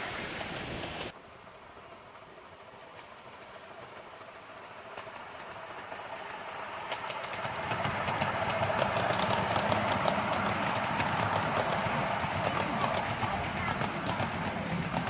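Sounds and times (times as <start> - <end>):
miniature train approaching: 0.0 - 15.0
wheels clicking over rail joints: 0.0 - 15.0.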